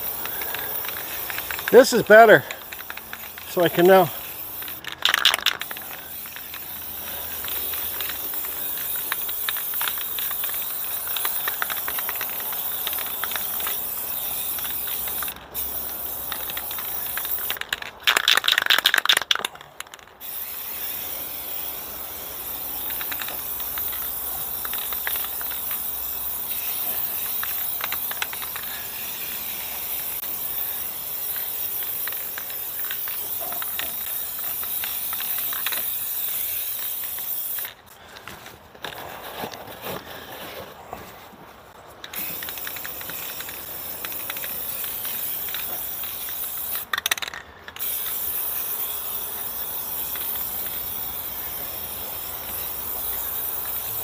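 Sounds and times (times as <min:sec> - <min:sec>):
spray can hissing: 0:00.0 - 0:19.2, 0:20.2 - 0:37.8, 0:42.1 - 0:47.0, 0:47.8 - 0:54.0
spray can ball rattling: 0:00.0 - 0:37.9, 0:42.0 - 0:54.0.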